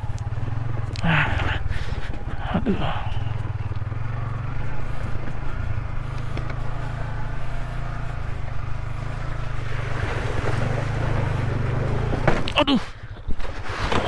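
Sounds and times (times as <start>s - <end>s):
motorcycle engine running: 0.0s - 14.0s
riding noise: 0.0s - 14.0s.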